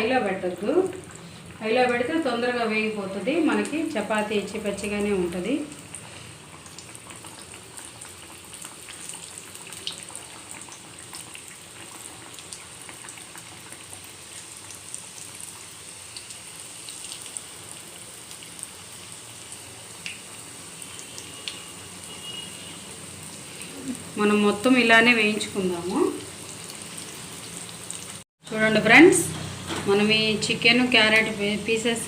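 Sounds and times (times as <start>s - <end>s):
rolls sizzling in hot oil: 0.0s - 32.0s.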